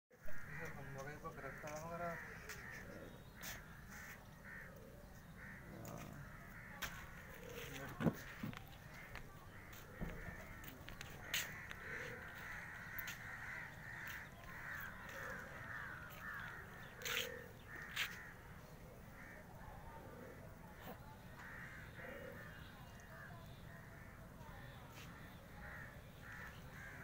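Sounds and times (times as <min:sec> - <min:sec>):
birds chattering: 0:00.2 - 0:27.0.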